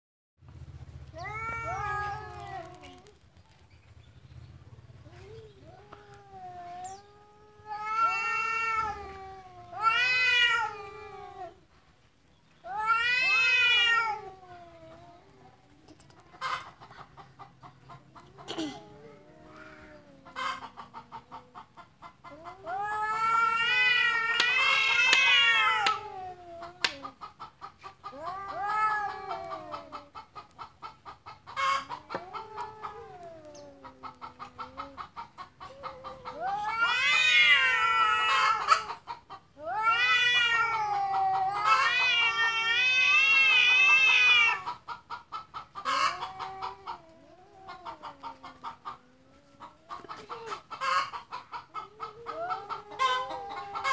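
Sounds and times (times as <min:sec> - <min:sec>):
cats yowling: 0:01.1 - 0:03.2, 0:04.8 - 0:11.7, 0:12.6 - 0:45.0, 0:45.7 - 0:53.9.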